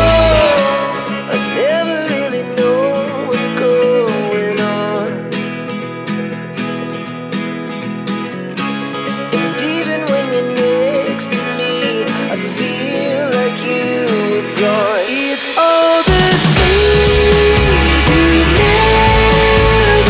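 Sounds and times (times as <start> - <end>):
melody over plucked guitar: 0.0 - 15.5, 16.1 - 20.0.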